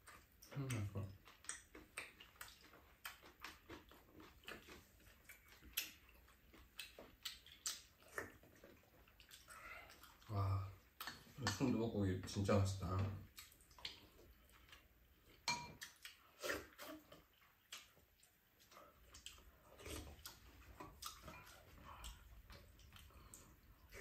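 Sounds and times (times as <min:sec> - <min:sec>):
chewing and slurping: 0:00.0 - 0:11.6, 0:12.9 - 0:24.0.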